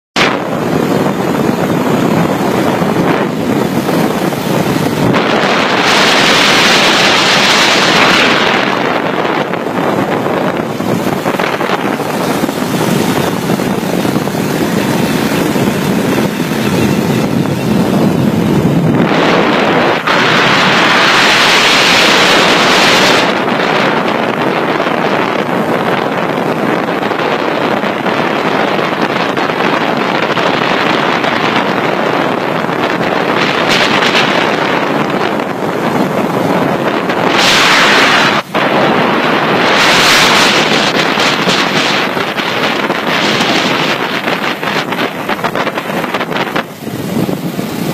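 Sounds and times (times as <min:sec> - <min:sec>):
wind rushing over microphone: 0:00.2 - 0:47.9.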